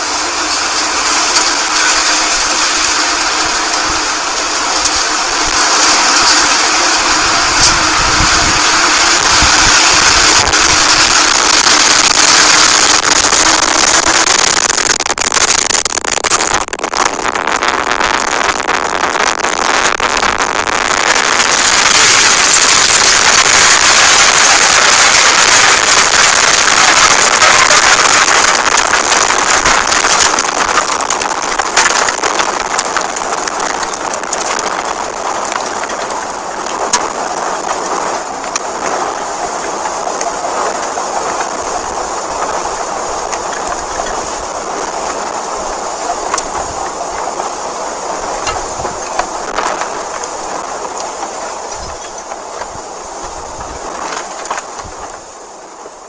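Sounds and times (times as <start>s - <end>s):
debris cracking: 0.0s - 47.3s, 48.1s - 55.3s
tornado wind rushing: 0.0s - 56.0s.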